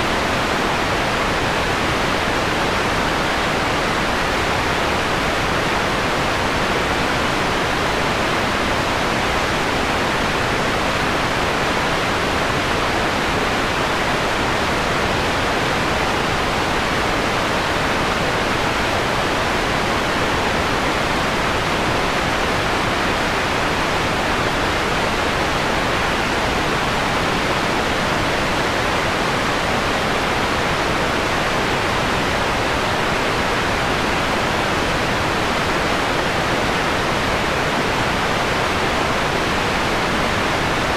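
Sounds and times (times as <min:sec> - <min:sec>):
filtered white noise: 0:00.0 - 0:40.9.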